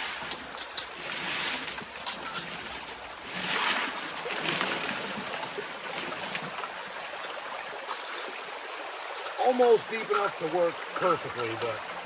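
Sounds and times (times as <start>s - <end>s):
river water running through sluice: 0.0s - 12.0s.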